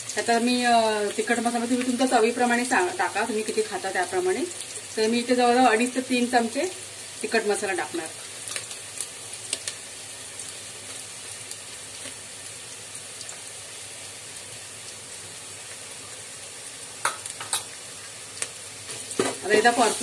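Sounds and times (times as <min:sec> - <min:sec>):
onion frying in oil: 0:00.0 - 0:20.0.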